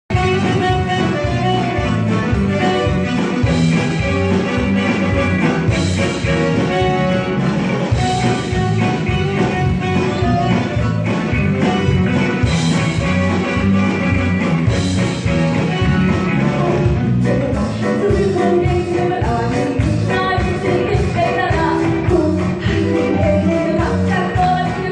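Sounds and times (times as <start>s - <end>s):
live band playing rock song: 0.1s - 24.9s.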